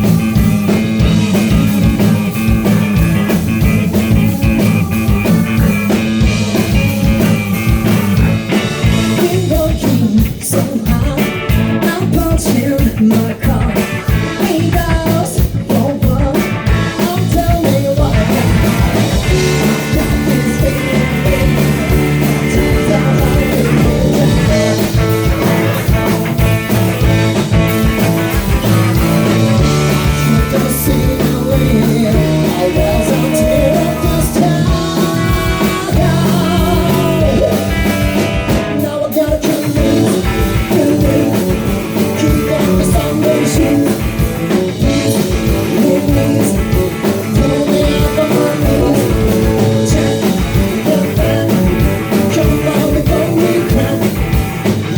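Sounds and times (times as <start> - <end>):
live rock band playing: 0.0 - 54.9
person singing lead vocal: 0.0 - 54.9.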